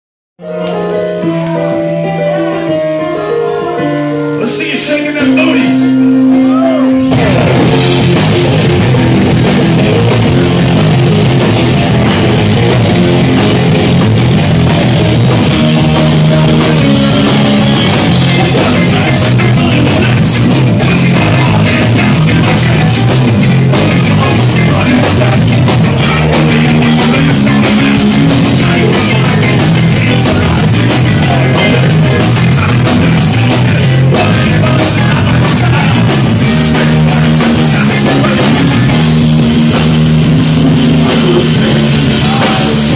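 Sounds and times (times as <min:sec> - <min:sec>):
bass guitar: 0:00.4 - 0:42.9
electric guitar: 0:00.4 - 0:42.9
drum kit: 0:04.4 - 0:42.9.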